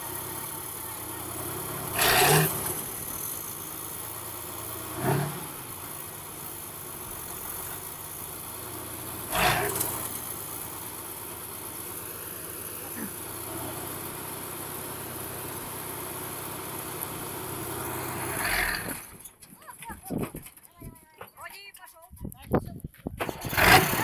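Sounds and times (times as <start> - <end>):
tractor diesel engine running: 0.0 - 22.3, 23.1 - 24.0.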